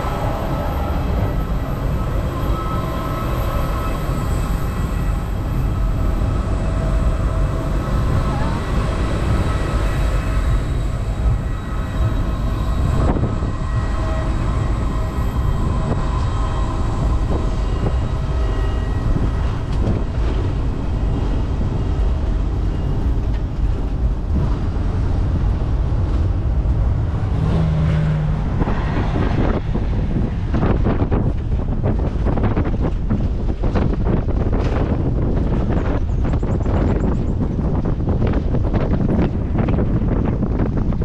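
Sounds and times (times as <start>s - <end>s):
vehicle engine and tyres rumbling: 0.0s - 41.0s
wind on microphone: 0.0s - 41.0s.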